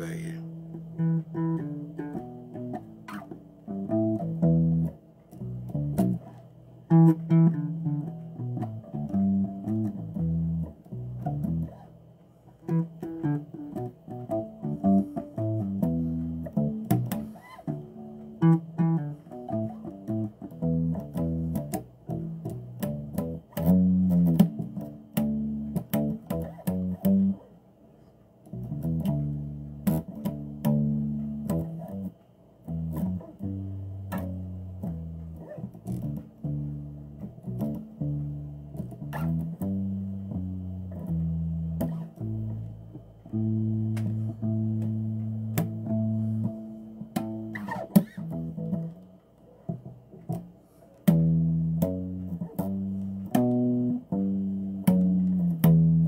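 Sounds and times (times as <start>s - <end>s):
bass guitar plucking: 0.0s - 27.6s, 28.4s - 56.0s.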